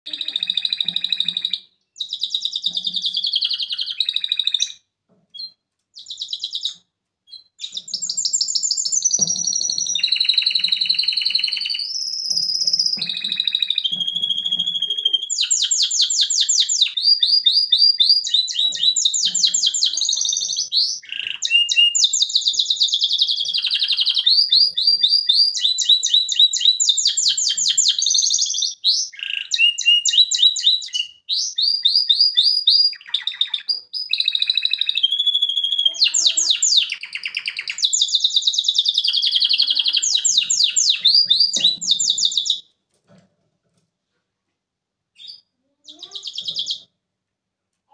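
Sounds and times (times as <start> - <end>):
canary singing trills: 0.0 - 42.7, 45.2 - 46.9.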